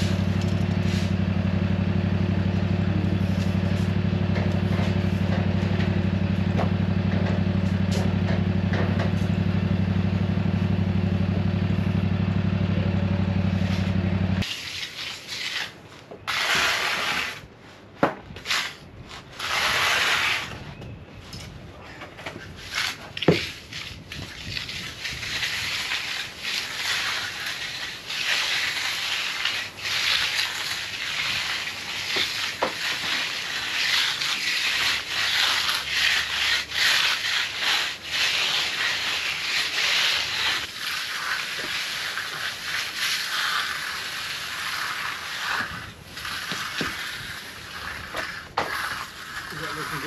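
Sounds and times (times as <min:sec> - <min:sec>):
tools scraping concrete: 0:00.0 - 0:09.6, 0:13.5 - 0:50.0.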